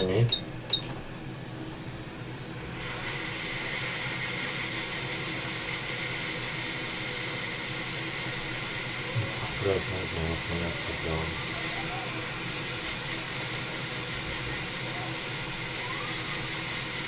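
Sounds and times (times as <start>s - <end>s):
hot air station blowing hiss: 2.5s - 17.0s.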